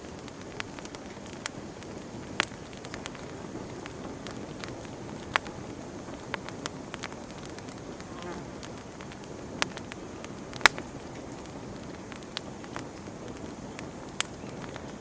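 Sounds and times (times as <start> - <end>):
low rush of flame: 0.0 - 15.0
wood crackling and popping: 0.0 - 15.0.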